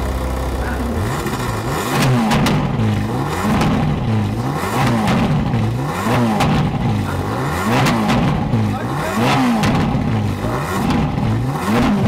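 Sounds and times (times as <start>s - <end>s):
sports car engine revving: 0.0s - 12.0s.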